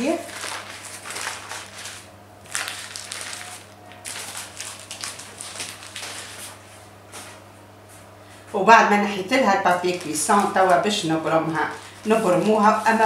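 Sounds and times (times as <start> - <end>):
baking paper crinkling: 0.0 - 7.4, 9.4 - 13.0.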